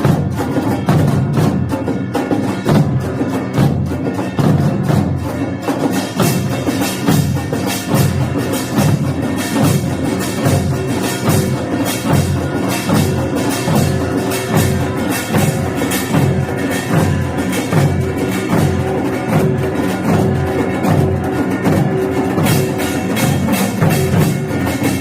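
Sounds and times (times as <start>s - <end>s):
fast drum beats: 0.0s - 25.0s
small gongs clanging: 0.0s - 25.0s.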